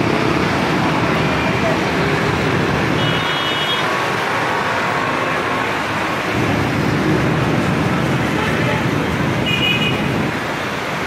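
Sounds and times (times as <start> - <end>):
traffic engines din: 0.0 - 11.0.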